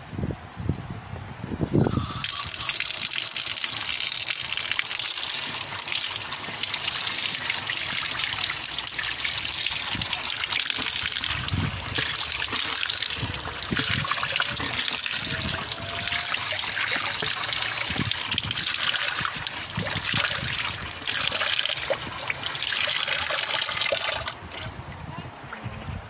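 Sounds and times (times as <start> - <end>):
water pouring from tap: 1.8 - 24.8
water splashing into basin: 1.9 - 24.8.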